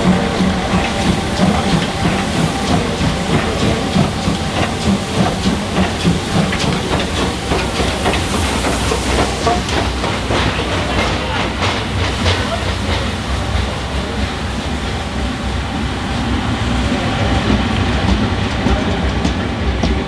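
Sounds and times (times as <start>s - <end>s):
hissing steam: 0.0s - 20.0s
steam locomotive chugging: 0.0s - 20.0s.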